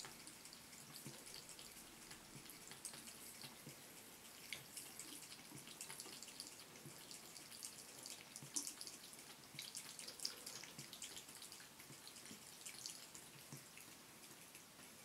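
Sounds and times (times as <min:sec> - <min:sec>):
cat lapping water: 0:00.0 - 0:15.0
water dripping into sink: 0:00.0 - 0:15.0.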